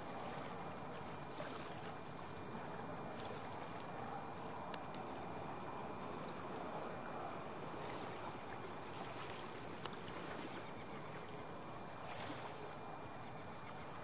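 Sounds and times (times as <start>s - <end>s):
light wind: 0.0s - 14.0s
river water washing: 0.0s - 14.0s.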